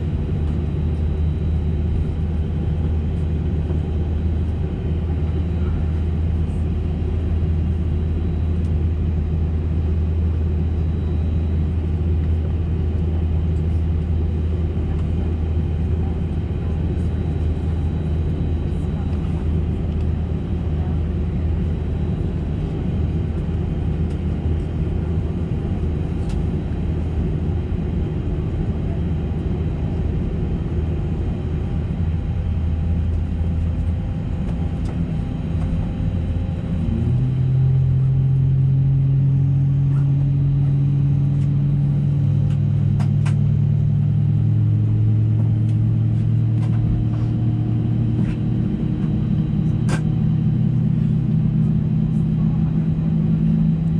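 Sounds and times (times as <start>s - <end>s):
aircraft cabin hum: 0.0s - 53.9s.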